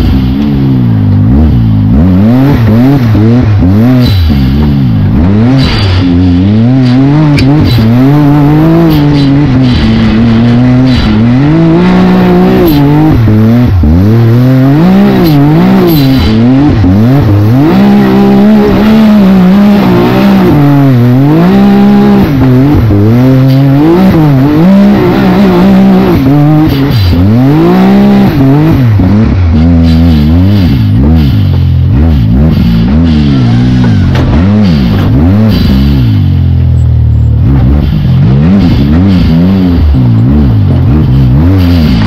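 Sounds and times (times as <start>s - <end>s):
engine revving hard: 0.0s - 36.6s, 37.4s - 42.0s.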